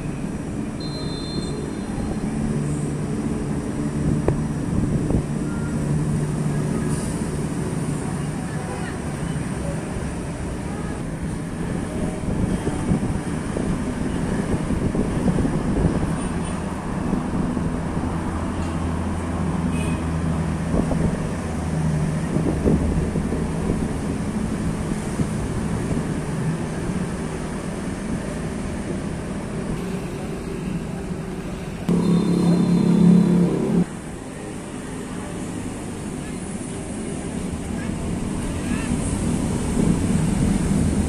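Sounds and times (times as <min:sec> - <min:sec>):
vehicle engine humming: 0:00.0 - 0:41.0.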